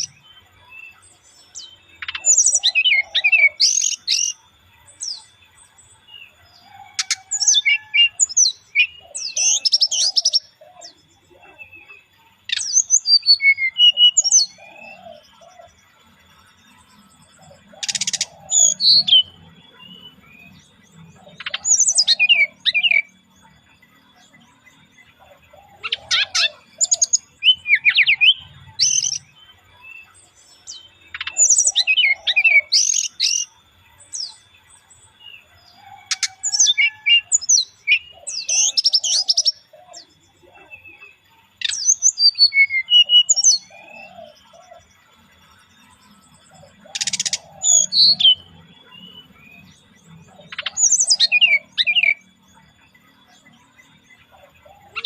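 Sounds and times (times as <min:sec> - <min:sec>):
bird chirping and trilling: 0:00.0 - 0:55.0.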